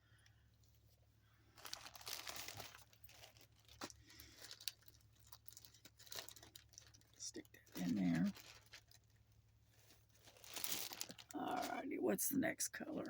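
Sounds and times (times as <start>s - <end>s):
yarn and canvas rustling: 0.8s - 11.9s.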